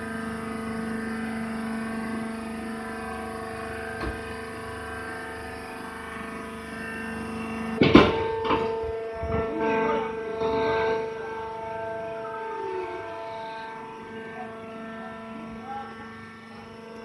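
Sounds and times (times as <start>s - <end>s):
hydraulic power unit humming: 0.0s - 17.0s.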